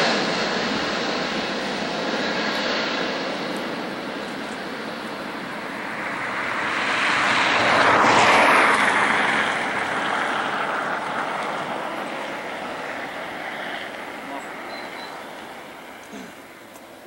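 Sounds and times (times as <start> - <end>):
jet airliner engine landing: 0.0 - 17.0.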